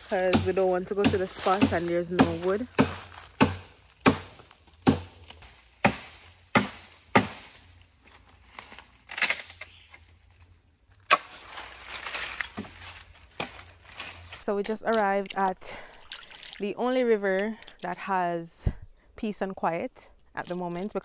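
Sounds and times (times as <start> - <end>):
dry sticks cracking: 0.0 - 18.0, 20.1 - 21.0.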